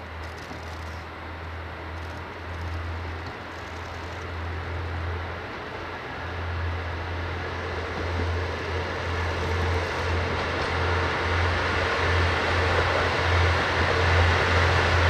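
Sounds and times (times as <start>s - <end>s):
diesel train engine drone: 0.0s - 15.0s
train running noise: 0.0s - 15.0s.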